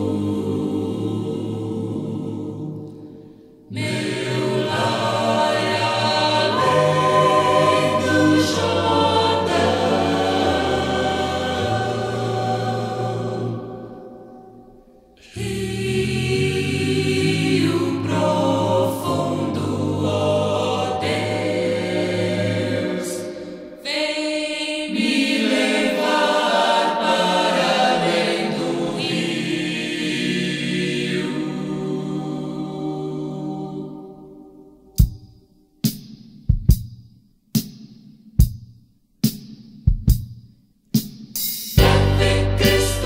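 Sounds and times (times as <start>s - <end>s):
choir singing a hymn: 0.0s - 34.9s, 41.8s - 43.0s.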